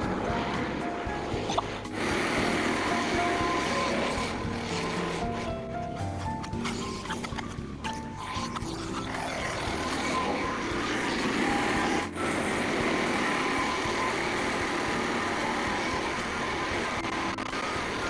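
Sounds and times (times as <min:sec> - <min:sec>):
bandsaw mill running: 0:00.0 - 0:18.0.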